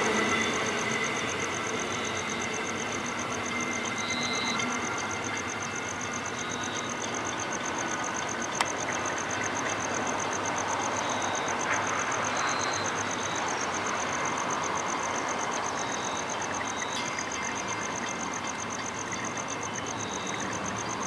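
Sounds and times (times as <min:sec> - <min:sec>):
rumble of distant vehicles: 0:00.0 - 0:21.0.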